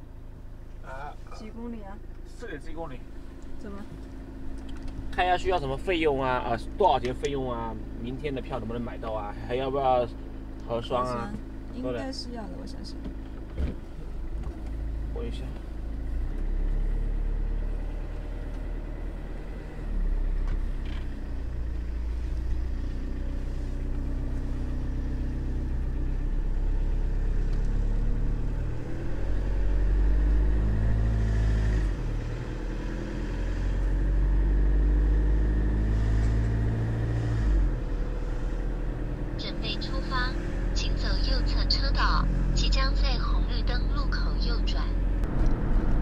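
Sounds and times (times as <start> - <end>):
road noise: 0.0 - 46.0
van engine: 0.0 - 46.0.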